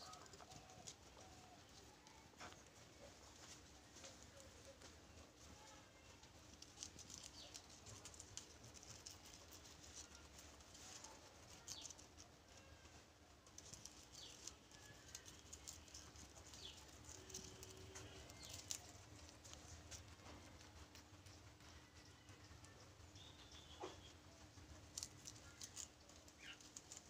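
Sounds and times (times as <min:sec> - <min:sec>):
rustling and clicking: 0:00.0 - 0:12.3, 0:13.4 - 0:21.7, 0:23.9 - 0:27.0.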